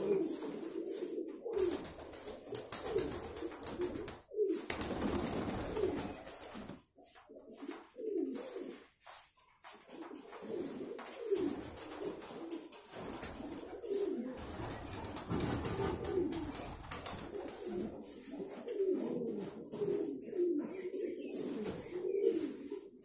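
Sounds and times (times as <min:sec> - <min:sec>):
pigeons cooing: 0:00.0 - 0:08.9, 0:10.2 - 0:23.0.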